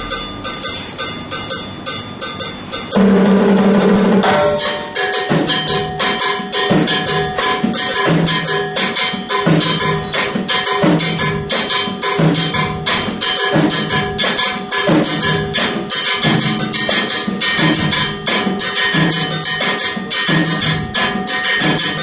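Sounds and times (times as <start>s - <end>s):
drum kit playing fast pattern: 0.0s - 22.0s.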